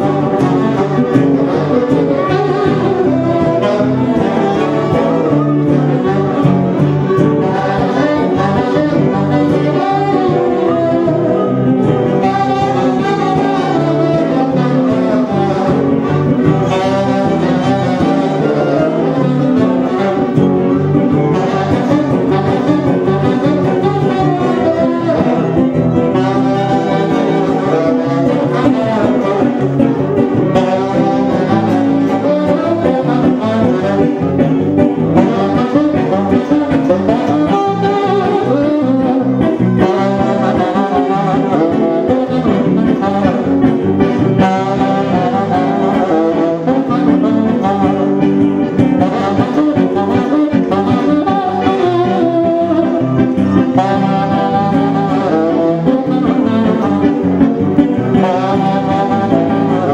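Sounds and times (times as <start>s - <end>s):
accordion: 0.0s - 59.9s
guitar: 0.0s - 59.9s
tenor saxophone: 0.0s - 59.9s.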